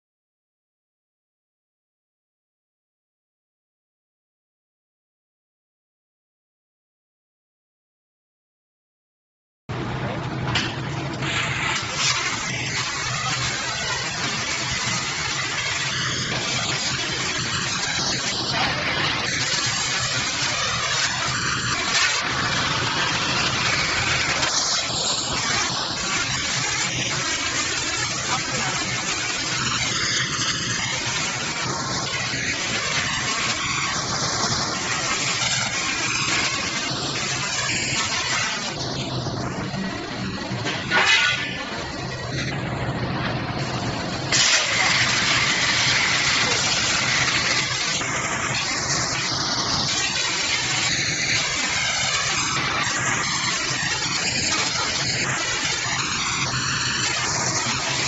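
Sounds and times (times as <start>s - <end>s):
machine hum: 9.7s - 58.0s
plasma torch hissing: 9.8s - 58.0s.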